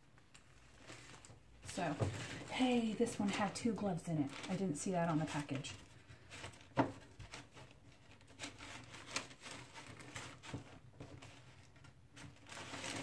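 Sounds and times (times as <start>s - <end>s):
paper wrapper crinkling: 0.1s - 13.0s.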